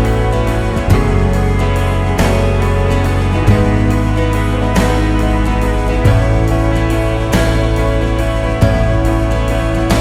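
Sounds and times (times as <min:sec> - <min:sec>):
guitar-led instrumental music: 0:00.0 - 0:10.0
steady bass line: 0:00.0 - 0:10.0.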